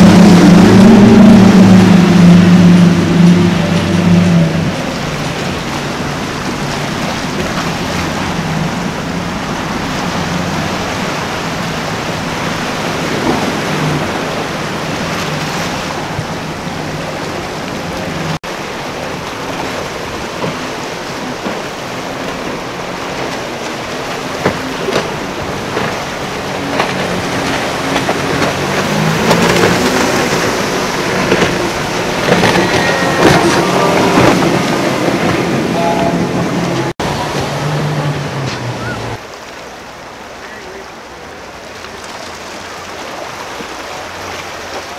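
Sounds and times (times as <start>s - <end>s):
boat engine drone: 0.0s - 44.9s
rushing wake and spray: 0.0s - 44.9s
wind: 0.0s - 44.9s.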